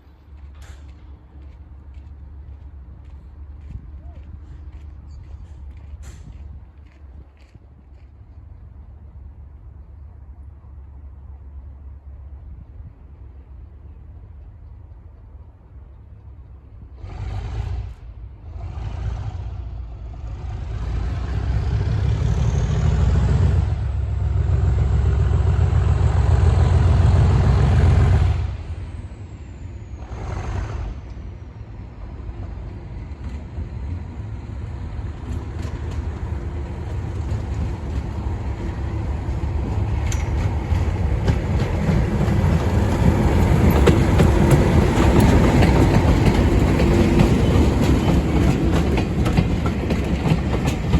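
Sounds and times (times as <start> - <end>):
wheels clattering on rails: 0.0 - 8.4, 16.4 - 50.9
diesel locomotive engines running: 0.0 - 50.9.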